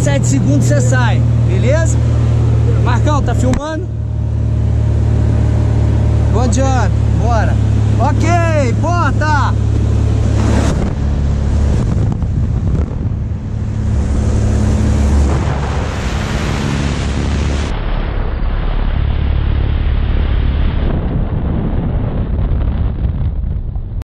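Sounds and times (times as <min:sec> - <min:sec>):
aircraft engine and propeller drone: 0:00.0 - 0:23.3
loud wind rush: 0:00.0 - 0:24.0.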